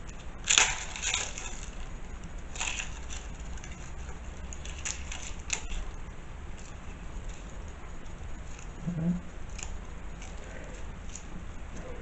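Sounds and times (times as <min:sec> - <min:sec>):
garlic skins crackling and rustling: 0:00.0 - 0:12.0.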